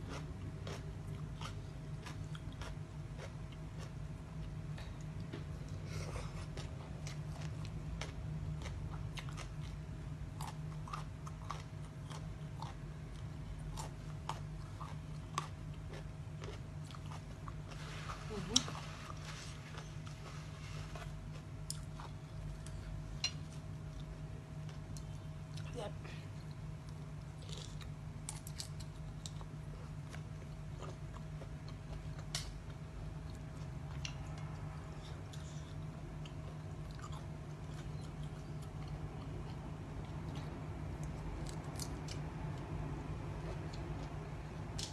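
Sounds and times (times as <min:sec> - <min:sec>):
person chewing crunchy food: 0:00.0 - 0:25.7, 0:26.4 - 0:44.9
steady low hum: 0:00.0 - 0:44.9.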